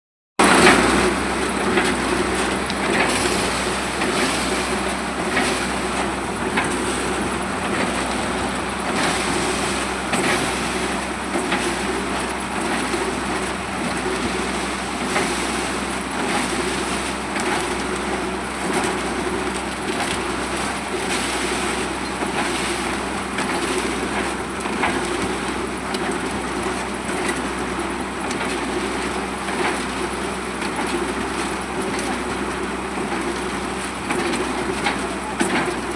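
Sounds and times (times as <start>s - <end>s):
heavy diesel machinery running: 0.4s - 35.9s.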